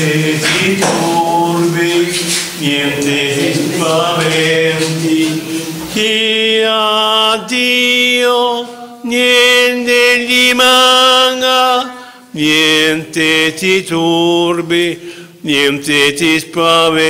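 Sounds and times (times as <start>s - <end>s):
slow devotional chant: 0.0s - 17.0s.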